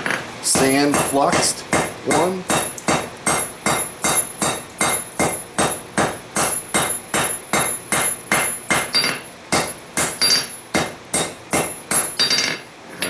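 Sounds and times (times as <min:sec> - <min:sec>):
hammer beating metal on anvil: 0:00.5 - 0:12.6.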